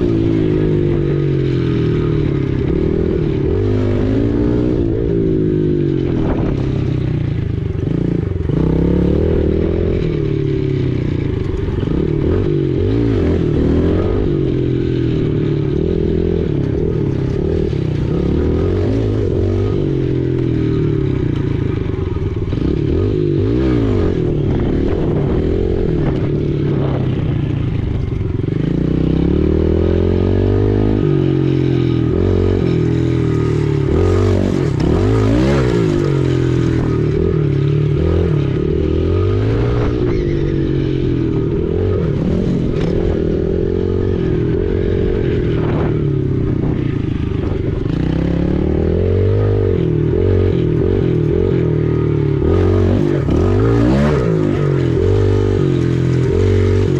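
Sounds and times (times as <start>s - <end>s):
pit bike engine revving: 0.0s - 56.9s.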